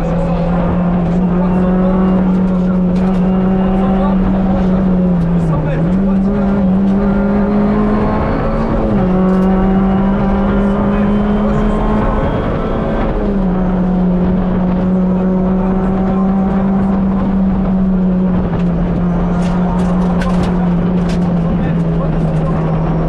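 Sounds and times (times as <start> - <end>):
rally car engine revving: 0.0 - 23.0
road and tyre noise: 0.0 - 23.0.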